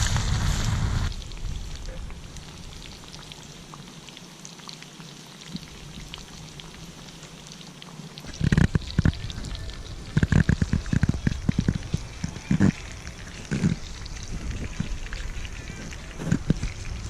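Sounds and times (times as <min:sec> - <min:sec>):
fish deep-frying in oil: 0:00.0 - 0:17.0.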